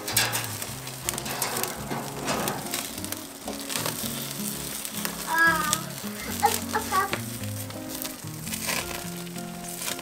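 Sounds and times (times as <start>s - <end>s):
background music: 0.0s - 10.0s
fish sizzling on grill: 0.0s - 10.0s
wood fire crackling and popping: 0.0s - 10.0s.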